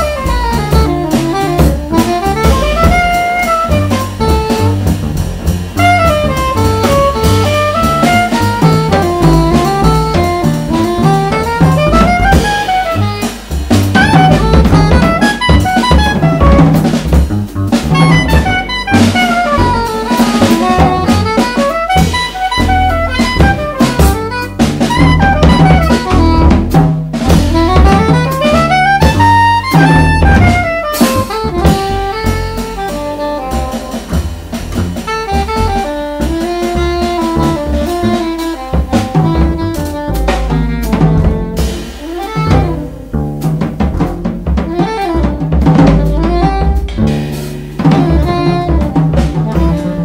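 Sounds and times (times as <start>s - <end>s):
soprano saxophone: 0.0s - 17.1s, 17.7s - 43.4s, 44.2s - 47.1s, 47.8s - 50.0s
drum kit with cymbals: 0.0s - 50.0s
plucked double bass: 0.0s - 50.0s.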